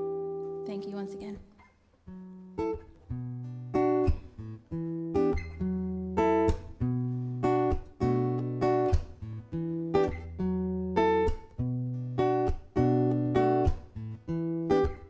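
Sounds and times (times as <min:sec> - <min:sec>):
guitar chords ringing: 0:00.0 - 0:01.3, 0:02.0 - 0:15.0.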